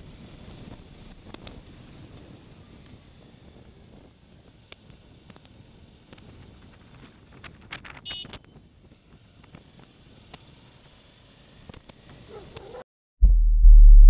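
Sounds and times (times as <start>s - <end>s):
wind and riding noise: 0.0s - 12.8s.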